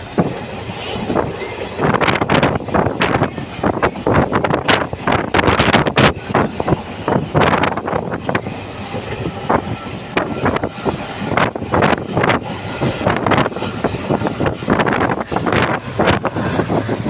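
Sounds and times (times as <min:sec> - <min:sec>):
train rumbling past: 0:00.0 - 0:17.0
wind buffeting microphone: 0:00.0 - 0:17.0.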